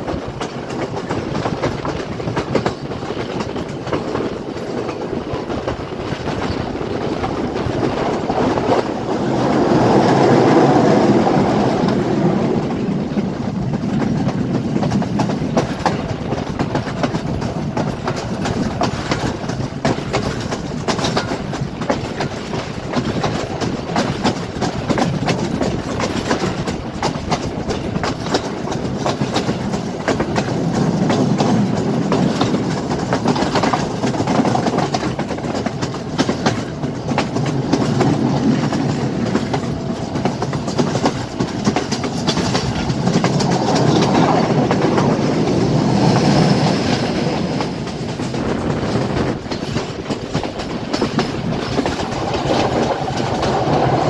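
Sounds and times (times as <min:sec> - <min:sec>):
train rumble: 0:00.0 - 0:54.0
wheels clattering over rail joints: 0:00.0 - 0:54.0.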